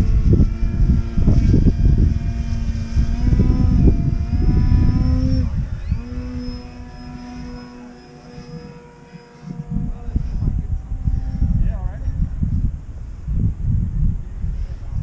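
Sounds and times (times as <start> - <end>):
model plane motor droning: 0.0 - 15.0
wind buffeting microphone: 0.0 - 15.0.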